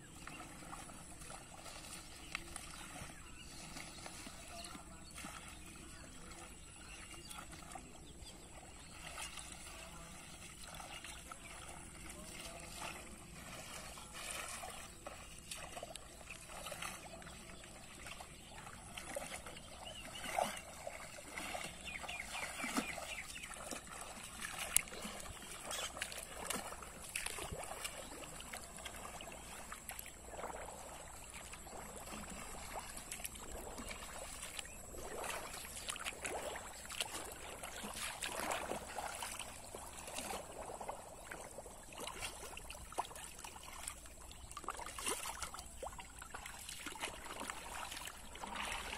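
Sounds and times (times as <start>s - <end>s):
shallow water splashing: 0.0s - 48.9s.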